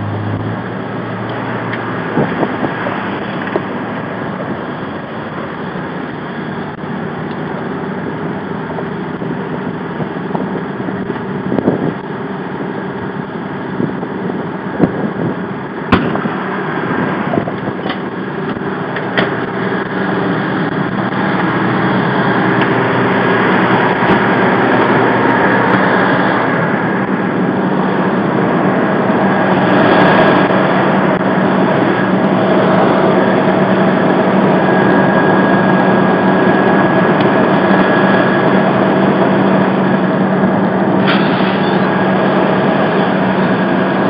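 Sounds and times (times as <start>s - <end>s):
fire engine running: 0.0s - 44.0s.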